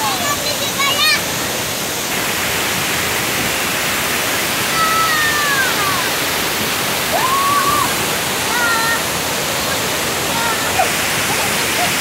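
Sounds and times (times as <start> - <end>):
water over rocky rapids: 0.0 - 12.0
waterfall rushing: 0.0 - 12.0.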